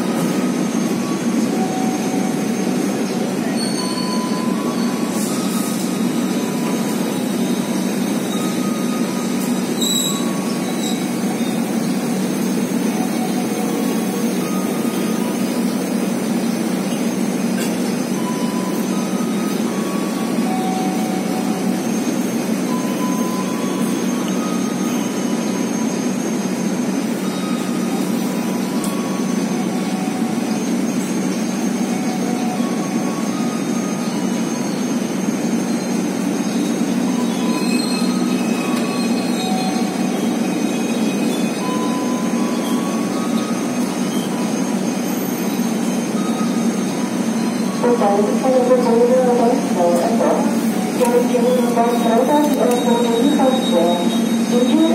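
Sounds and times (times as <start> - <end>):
train coaches rumbling on rails: 0.0 - 54.9
wheel squeals: 0.2 - 15.4, 18.1 - 47.8.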